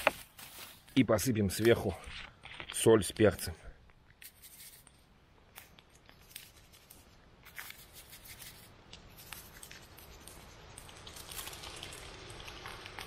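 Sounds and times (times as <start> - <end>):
light rustles and clicks of food: 0.0 - 13.0.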